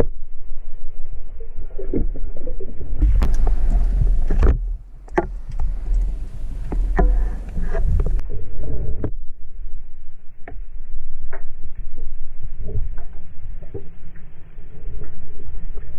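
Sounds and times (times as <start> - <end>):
low throbbing underwater rumble: 0.1 - 15.9.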